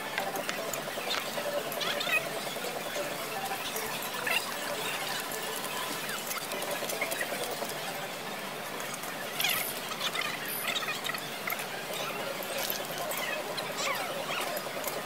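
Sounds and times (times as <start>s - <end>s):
background hubbub: 0.0s - 15.0s.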